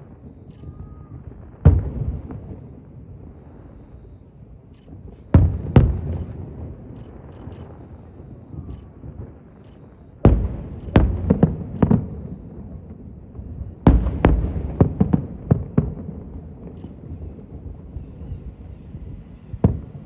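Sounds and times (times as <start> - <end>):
fireworks booming: 0.0 - 9.6, 10.2 - 20.0.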